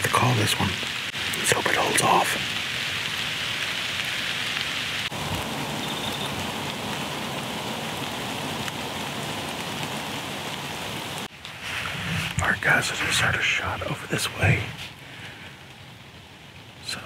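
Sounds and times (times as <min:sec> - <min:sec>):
light rain hiss: 0:00.0 - 0:17.0.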